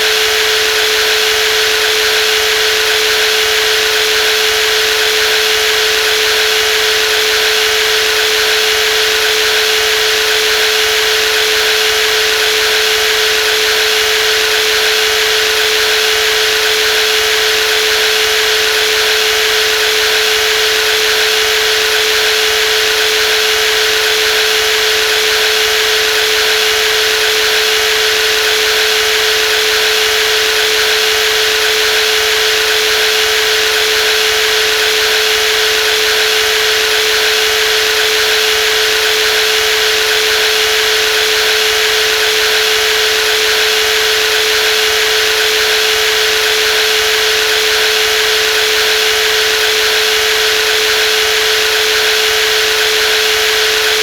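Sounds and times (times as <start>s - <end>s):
jigsaw motor whining: 0.0s - 54.0s.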